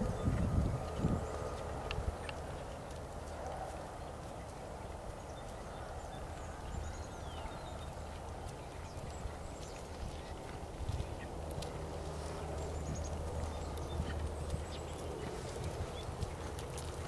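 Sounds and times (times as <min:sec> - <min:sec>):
horse hoofbeats on grass: 0:00.0 - 0:17.0
wind rumble on microphone: 0:00.0 - 0:17.0.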